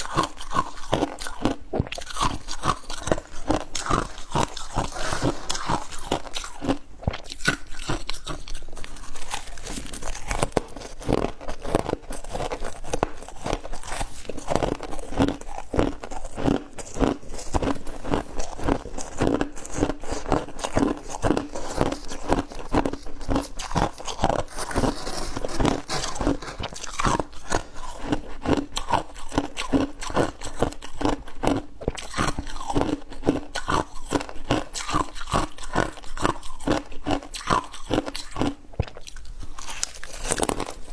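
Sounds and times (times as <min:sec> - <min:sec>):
crunching ice in mouth: 0:00.0 - 0:40.9.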